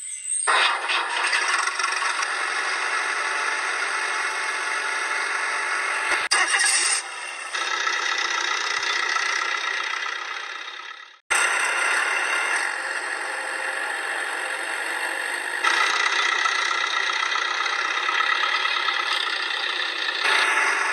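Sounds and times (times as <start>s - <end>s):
truck engine with high whine: 0.0s - 20.9s.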